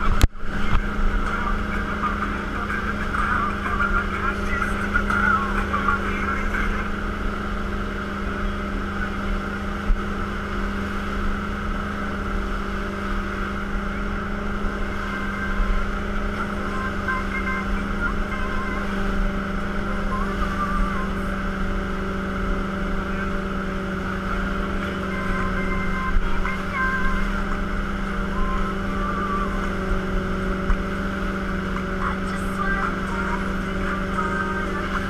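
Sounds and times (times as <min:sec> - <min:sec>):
boat engine droning: 0:00.0 - 0:35.0
churning wake rushing: 0:00.0 - 0:35.0.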